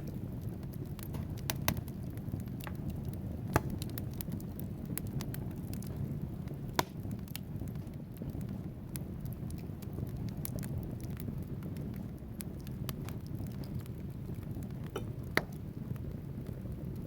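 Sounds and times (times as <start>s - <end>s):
fire crackling: 0.0s - 17.0s
log popping: 0.0s - 17.0s
low rumble of flame: 0.0s - 17.0s.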